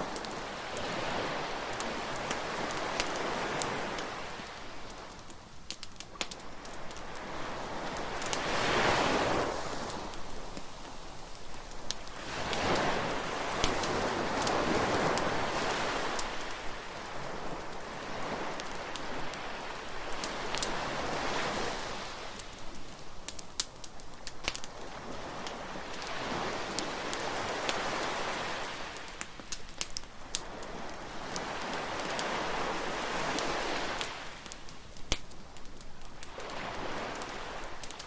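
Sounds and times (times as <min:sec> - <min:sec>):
bonfire crackling and popping: 0:00.0 - 0:38.0
surf washing on beach: 0:00.0 - 0:38.0.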